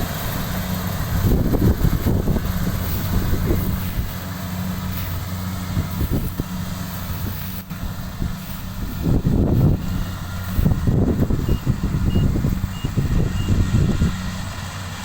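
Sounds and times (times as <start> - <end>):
short rustling bursts: 0.0 - 14.6
motor humming: 0.0 - 15.0.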